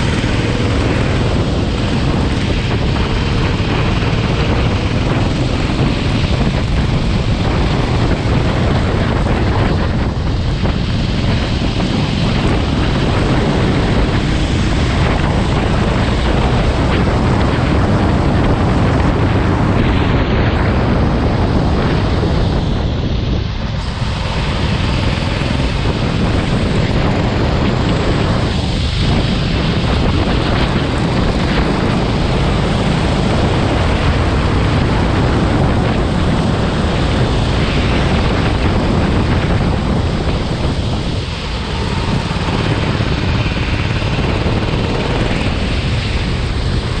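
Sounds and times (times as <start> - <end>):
go-kart engine at speed: 0.0 - 47.0
wind buffeting microphone: 0.0 - 47.0.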